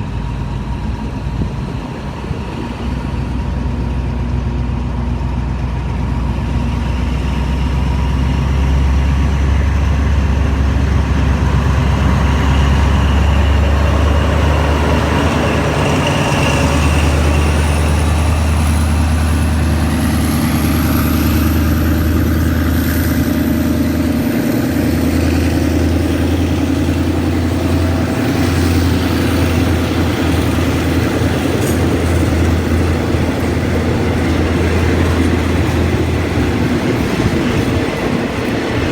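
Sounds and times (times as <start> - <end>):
diesel locomotive engine drone: 0.0 - 38.9.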